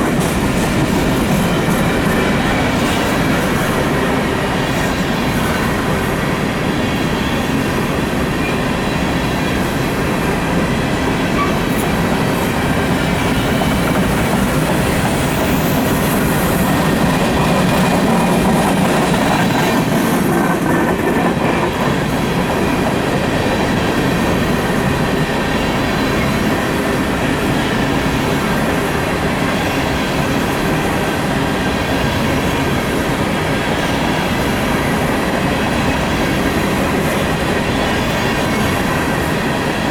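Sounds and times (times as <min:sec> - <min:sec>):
clickety-clack over rail joints: 0:00.0 - 0:39.9
freight train wheels rumbling: 0:00.0 - 0:39.9.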